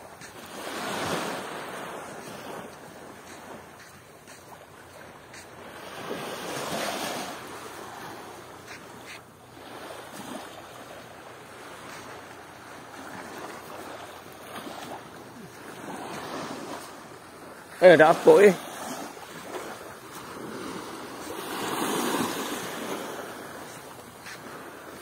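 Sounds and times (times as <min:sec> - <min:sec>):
waves washing at shore: 0:00.0 - 0:25.0.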